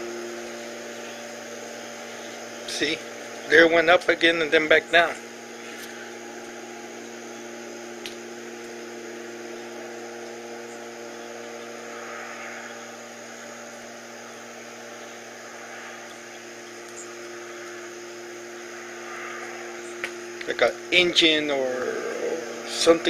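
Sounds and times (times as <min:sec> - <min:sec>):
distant machine droning hum: 0:00.0 - 0:23.0.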